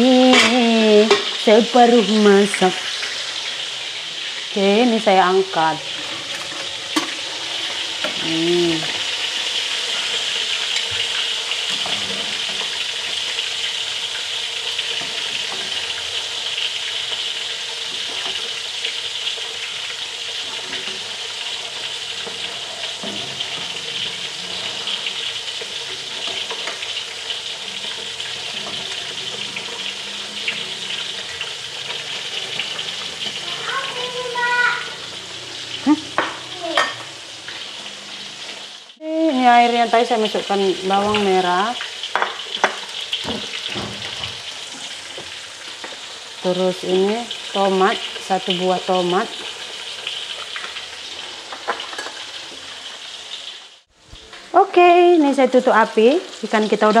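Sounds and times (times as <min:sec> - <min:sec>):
fish sizzling in hot oil: 0:00.0 - 0:57.0.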